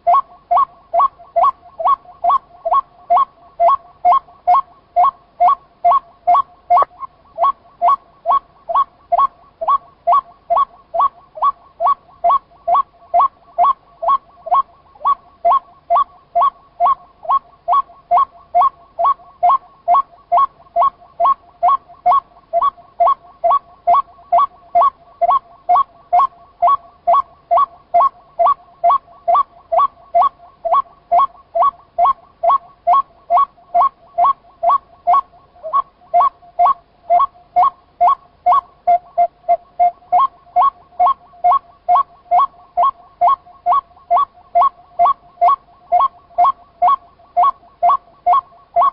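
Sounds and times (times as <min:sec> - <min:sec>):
waterhen calling: 0:00.0 - 0:48.9.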